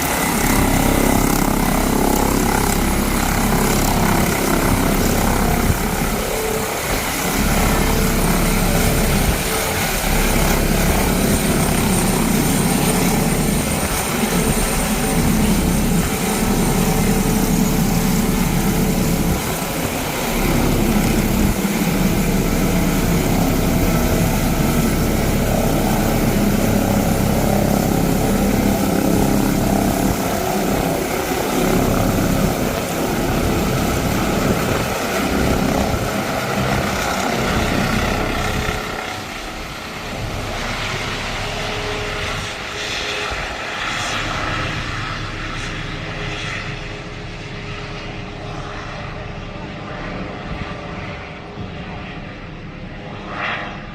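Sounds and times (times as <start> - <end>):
helicopter engines and rotors: 0.0 - 53.9.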